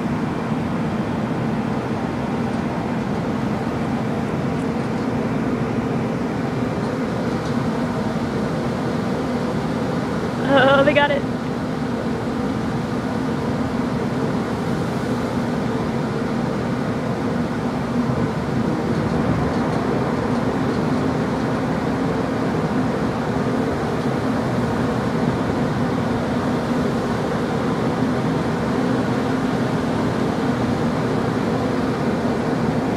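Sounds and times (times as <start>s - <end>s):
ship machinery droning hum: 0.0s - 32.9s.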